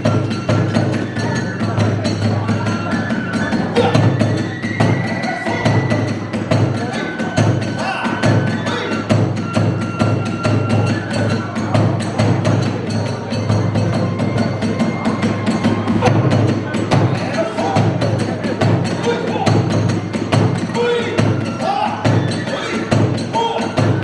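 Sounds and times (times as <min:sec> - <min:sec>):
bamboo flute long high notes: 0:00.0 - 0:18.0, 0:20.7 - 0:24.0
big taiko drum beat: 0:00.0 - 0:24.0
hand cymbals clashing: 0:00.0 - 0:24.0.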